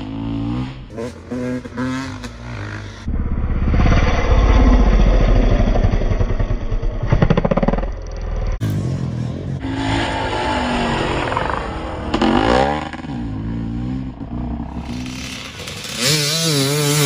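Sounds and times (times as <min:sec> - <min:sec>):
dirt bike engine revving: 0:00.0 - 0:03.1, 0:04.0 - 0:17.0.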